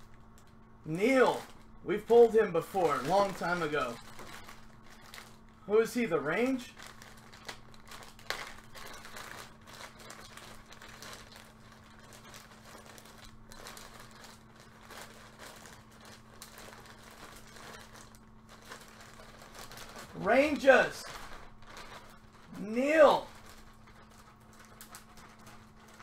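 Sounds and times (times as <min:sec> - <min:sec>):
faint steady hum: 0:00.0 - 0:26.0
plastic bag crinkling: 0:00.0 - 0:26.0.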